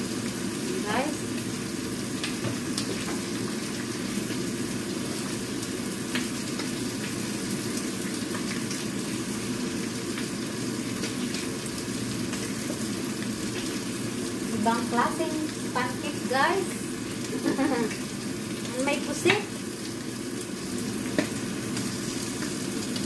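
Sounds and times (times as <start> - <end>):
pancake sizzling in frying pan: 0.0 - 23.0.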